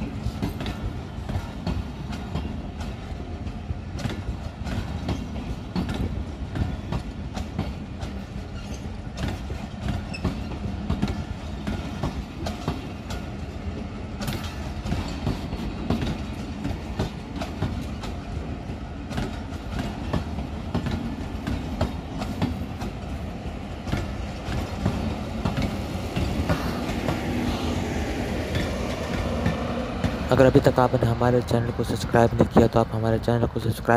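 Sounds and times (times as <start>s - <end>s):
train rumble: 0.0s - 33.9s
train wheels clickety-clack: 0.0s - 33.9s.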